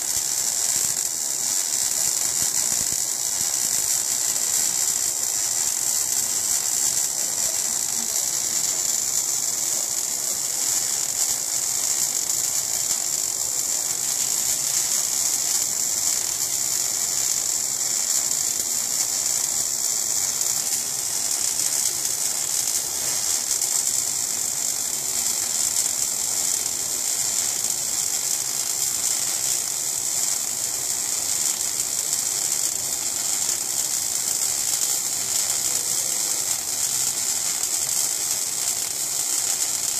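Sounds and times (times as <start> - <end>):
welding arc crackling and sizzling: 0.0 - 39.9
welding spatter: 0.0 - 39.9.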